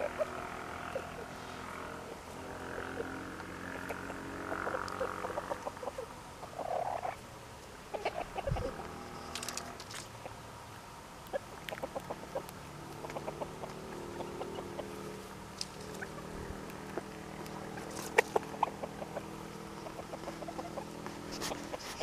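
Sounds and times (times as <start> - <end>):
chickens clucking: 0.0 - 7.2, 7.9 - 10.4, 11.2 - 22.0
steady low hum: 0.0 - 22.0.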